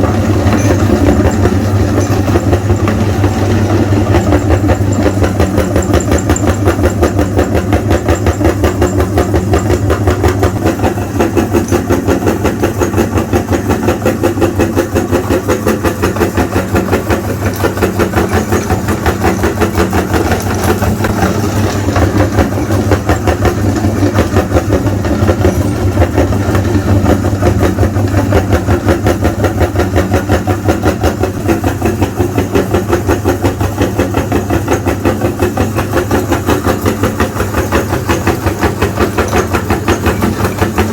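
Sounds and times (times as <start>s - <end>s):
electric meat grinder grinding chalk: 0.0s - 40.9s.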